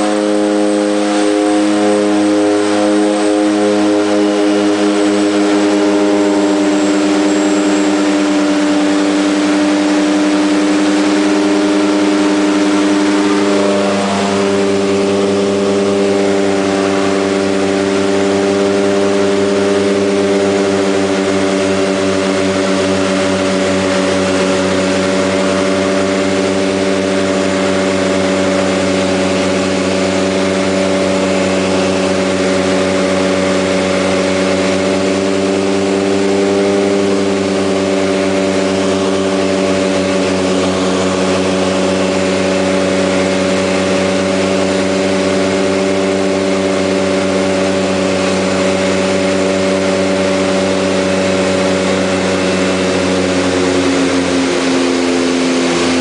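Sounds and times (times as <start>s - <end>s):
turboprop engines in cabin: 0.0s - 56.0s.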